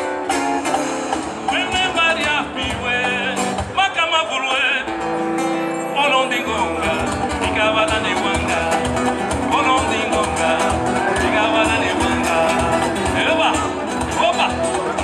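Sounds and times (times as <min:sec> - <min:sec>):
acoustic guitars playing: 0:00.0 - 0:15.0
man singing: 0:01.3 - 0:15.0.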